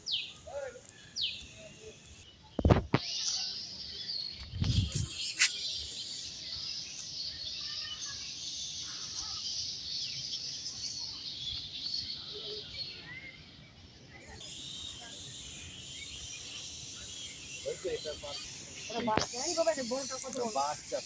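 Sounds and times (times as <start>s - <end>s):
birds chirping in chorus: 0.0s - 21.0s.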